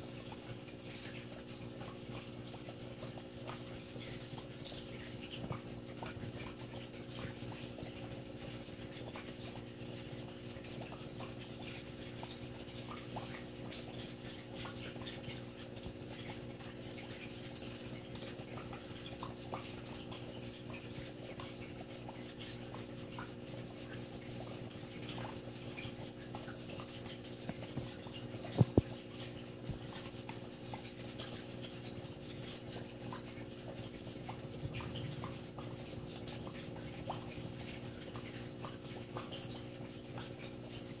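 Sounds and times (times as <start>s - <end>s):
aquarium equipment humming: 0.0s - 41.0s.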